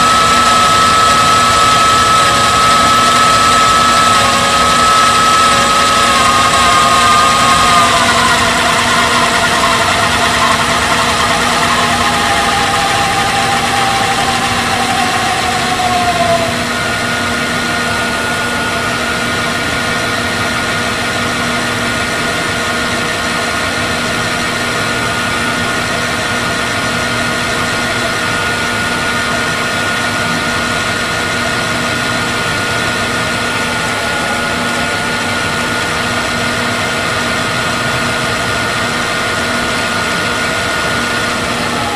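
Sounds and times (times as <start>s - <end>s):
vcr reel drive whirring: 0.0s - 41.9s.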